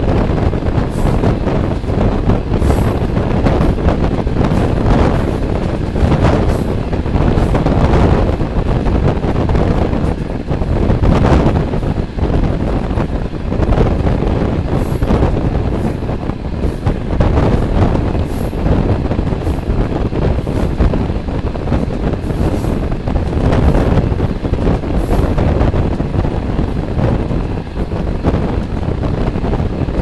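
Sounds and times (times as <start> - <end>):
train carriage running on rails: 0.0 - 30.0
wind buffeting microphone: 0.0 - 30.0.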